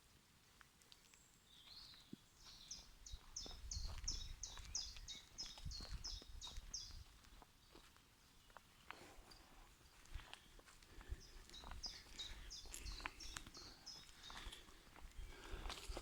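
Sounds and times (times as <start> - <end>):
small songbird singing: 1.0 - 15.5.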